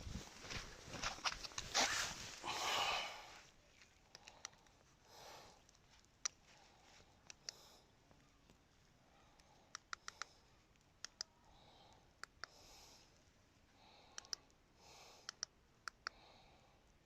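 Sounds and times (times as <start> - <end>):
soft hiss: 0.0 - 17.0.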